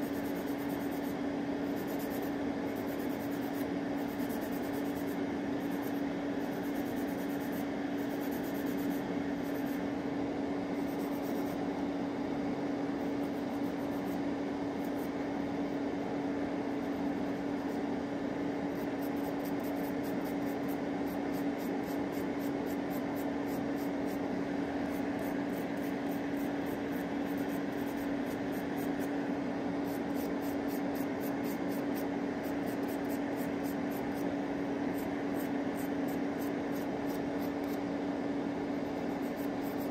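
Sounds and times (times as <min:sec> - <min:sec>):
electric nail drill humming: 0:00.0 - 0:09.9, 0:10.7 - 0:11.6, 0:12.9 - 0:15.5, 0:18.4 - 0:29.2, 0:29.8 - 0:37.9, 0:38.6 - 0:39.9.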